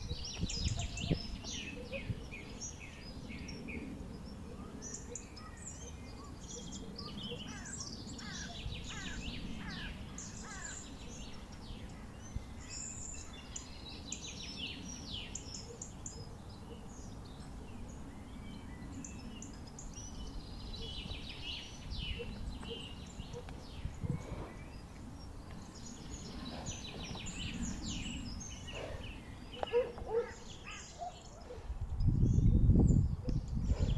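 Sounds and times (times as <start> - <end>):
small birds singing and chirping: 0.0 - 33.9.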